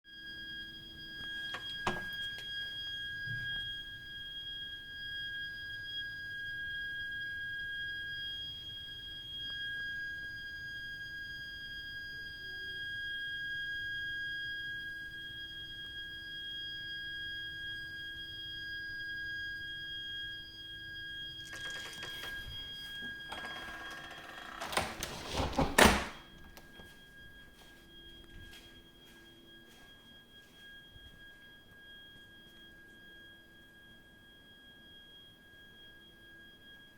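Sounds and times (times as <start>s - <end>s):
high-pitched pipework whine: 0.1s - 25.1s, 26.2s - 36.9s.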